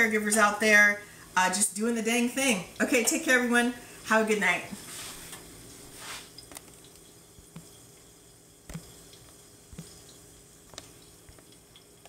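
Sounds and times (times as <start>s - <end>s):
vegetables cooking with low hiss: 0.0s - 12.0s.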